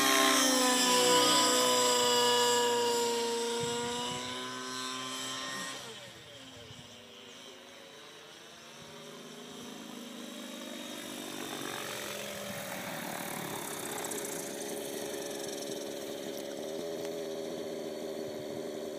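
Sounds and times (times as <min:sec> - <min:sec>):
model helicopter motor and rotor: 0:00.0 - 0:18.9.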